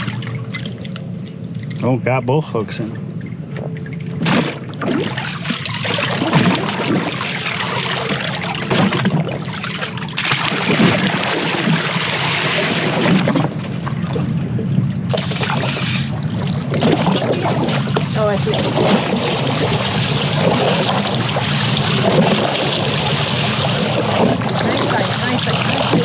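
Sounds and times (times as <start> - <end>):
water lapping against boat hull: 0.0 - 1.4, 2.8 - 26.0
wind: 0.0 - 26.0.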